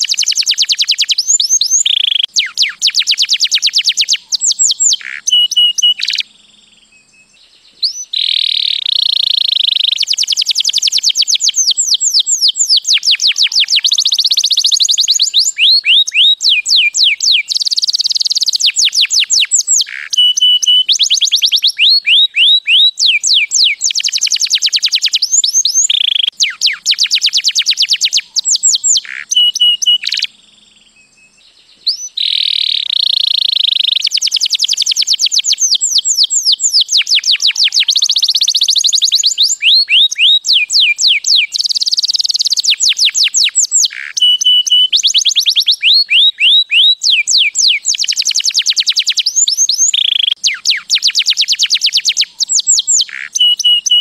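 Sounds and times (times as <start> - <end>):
canary singing fast trills: 0.0 - 54.0.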